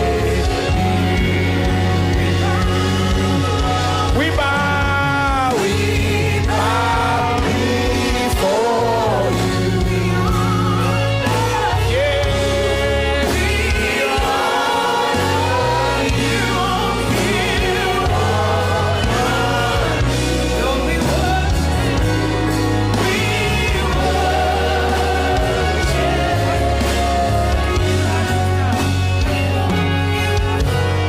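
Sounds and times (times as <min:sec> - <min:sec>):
band with stepping bass line: 0:00.0 - 0:31.0
voices singing: 0:00.0 - 0:31.0.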